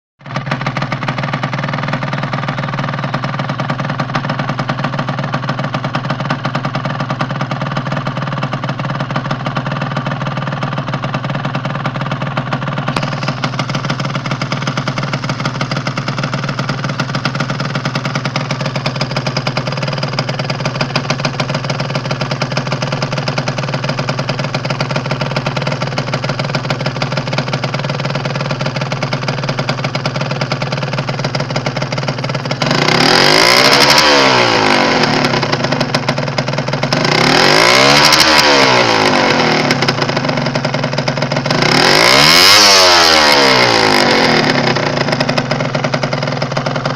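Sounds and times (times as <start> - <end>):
two-stroke engine idling: 0.2 - 46.9.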